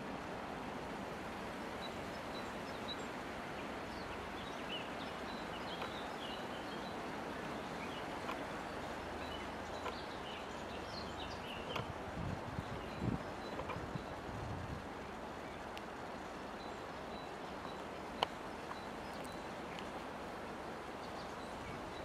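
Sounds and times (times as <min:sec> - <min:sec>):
wind through treetops: 0:00.0 - 0:22.0
small birds chirping faintly: 0:00.7 - 0:22.0.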